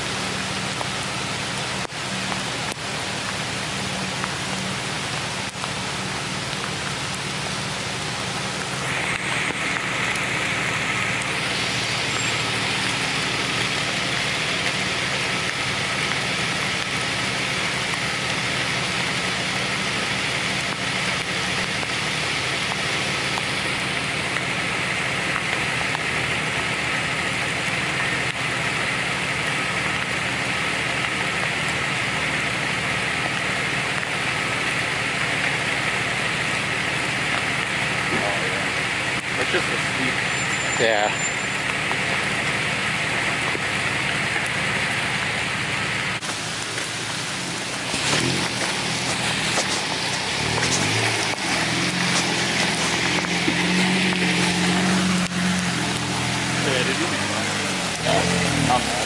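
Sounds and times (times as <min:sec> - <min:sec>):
car engine running: 0:00.0 - 0:59.0
rain hissing: 0:00.0 - 0:59.0.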